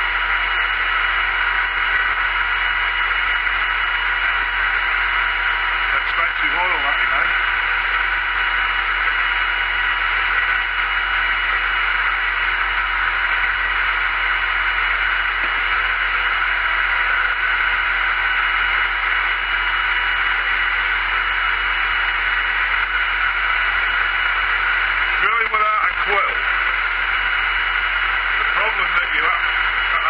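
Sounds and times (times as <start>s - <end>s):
milling machine drilling: 0.0s - 30.0s.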